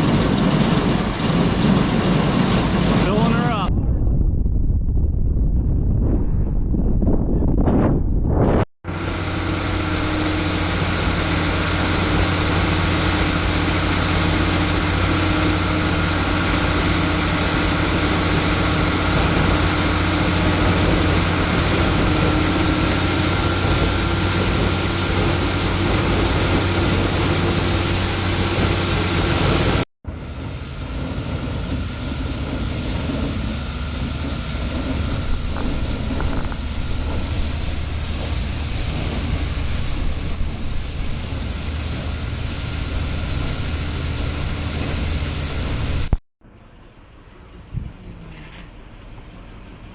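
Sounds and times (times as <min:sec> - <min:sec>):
farm machinery engine running: 0:00.0 - 0:03.7, 0:08.9 - 0:46.6
high whine: 0:00.0 - 0:48.4.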